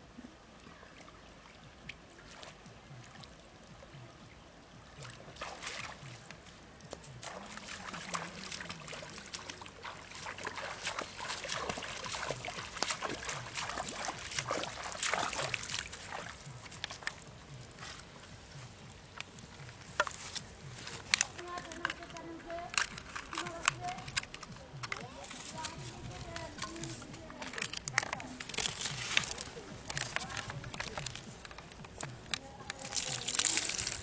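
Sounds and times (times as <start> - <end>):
water splashing and sloshing: 0.1 - 34.0.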